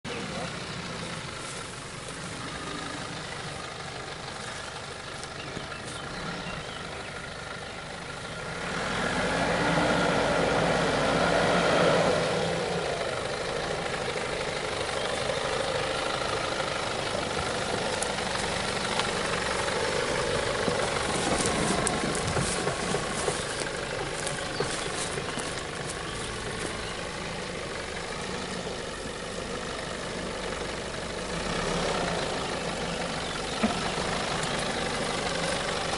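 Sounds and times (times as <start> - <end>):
car engine running at low speed: 0.0 - 35.9.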